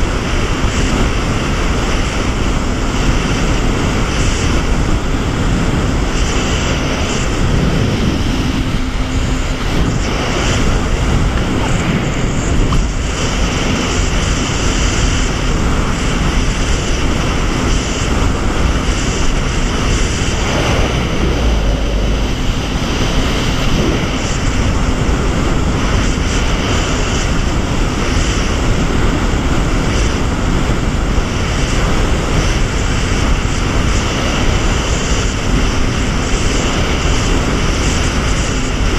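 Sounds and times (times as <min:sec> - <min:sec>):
jet ski engine: 0:00.0 - 0:38.9
spray churning: 0:00.0 - 0:38.9.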